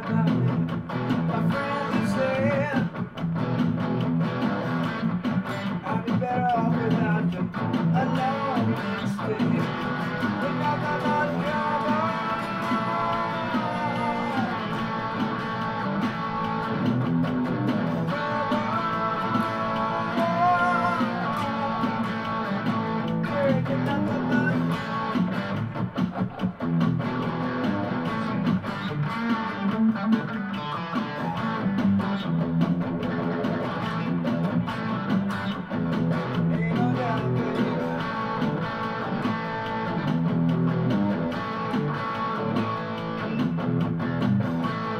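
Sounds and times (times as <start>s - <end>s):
electric guitar bending notes: 0.0s - 44.9s.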